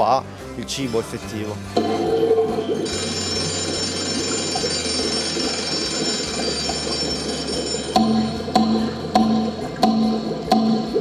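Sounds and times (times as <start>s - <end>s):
high ringing tones: 1.8s - 11.0s.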